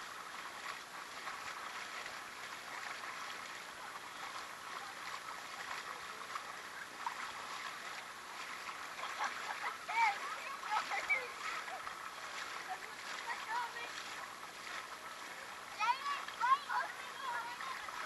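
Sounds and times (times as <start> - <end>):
creek running and gurgling: 0.0 - 18.0.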